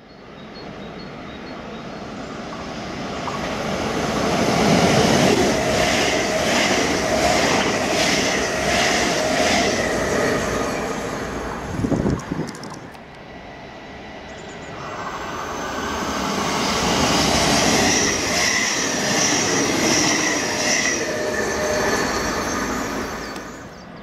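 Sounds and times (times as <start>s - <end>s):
train whine: 0.0s - 24.0s
passenger train wheels clattering: 2.4s - 13.2s, 14.2s - 24.0s.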